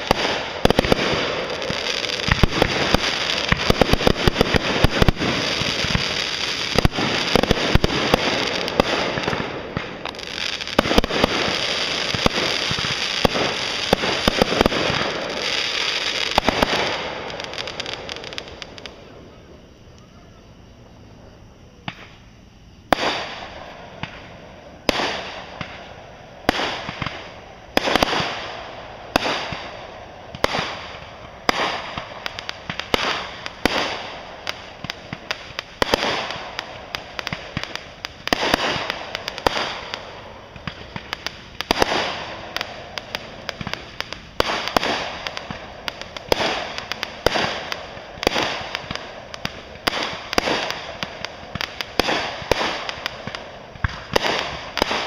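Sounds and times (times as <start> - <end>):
fireworks crackle: 0.0 - 20.7, 21.4 - 55.0
fireworks bangs: 0.0 - 55.0.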